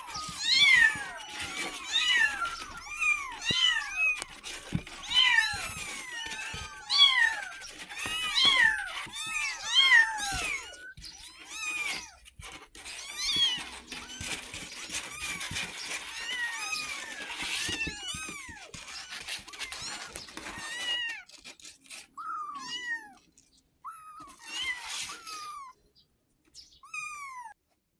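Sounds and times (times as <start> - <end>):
rustling: 0.0 - 25.8
kittens meowing: 0.0 - 26.0, 26.6 - 27.6.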